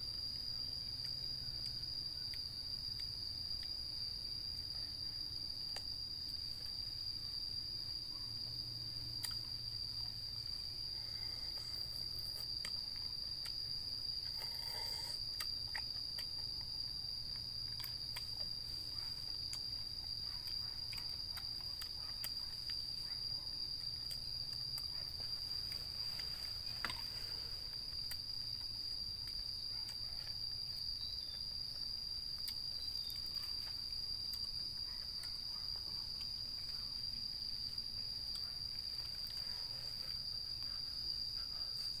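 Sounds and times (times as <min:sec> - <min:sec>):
crickets trilling: 0:00.0 - 0:42.0.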